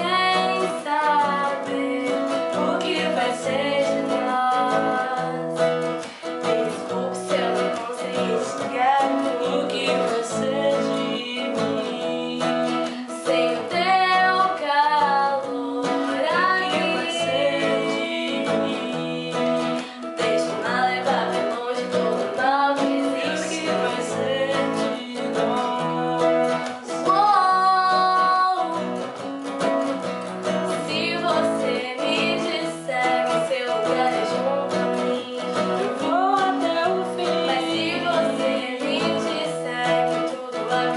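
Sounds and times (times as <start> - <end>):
woman singing slow song: 0.0 - 29.6, 30.4 - 40.9
acoustic guitar: 0.0 - 40.9.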